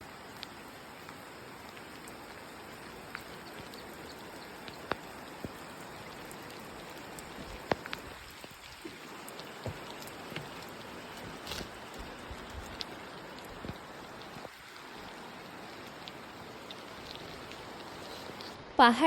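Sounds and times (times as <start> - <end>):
heavy raindrops ticking: 0.0 - 18.6
steady rain: 0.0 - 18.7.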